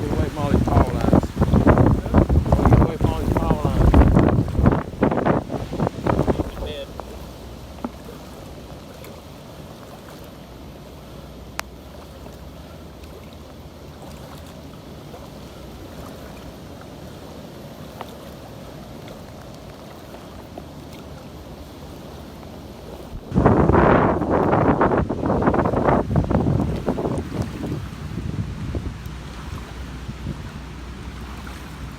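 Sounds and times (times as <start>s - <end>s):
boat motor running: 0.0s - 31.9s
water noise: 0.0s - 31.9s
wind: 0.0s - 31.9s.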